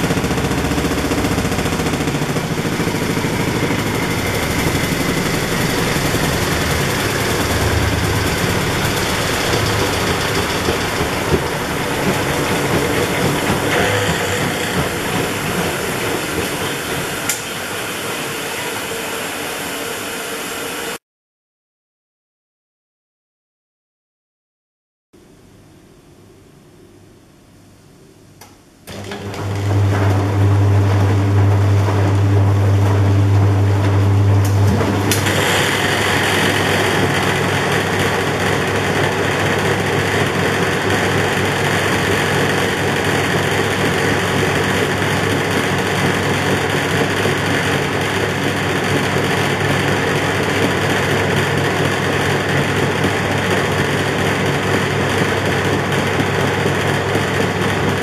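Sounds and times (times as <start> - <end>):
washing machine motor hum: 0.0 - 21.0, 28.8 - 58.0
washing machine spin whir: 0.0 - 21.0, 28.8 - 58.0.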